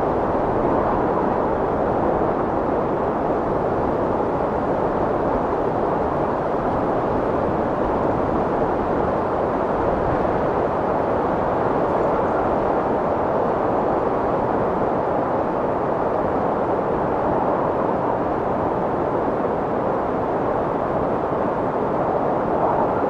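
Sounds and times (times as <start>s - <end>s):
strong wind blowing: 0.0s - 23.0s.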